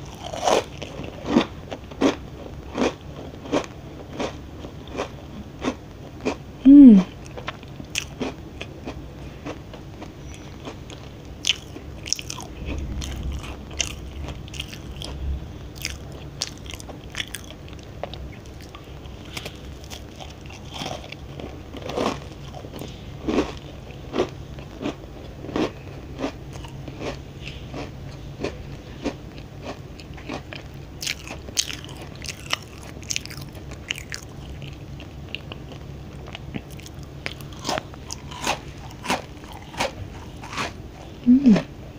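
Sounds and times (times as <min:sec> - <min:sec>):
crunchy cookie chewing: 0:00.0 - 0:41.7.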